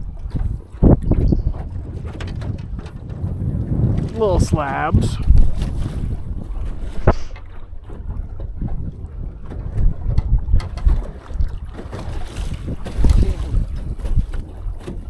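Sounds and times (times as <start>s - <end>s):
waves slapping boat hull: 0.0s - 15.0s
wind buffeting microphone: 0.0s - 15.0s.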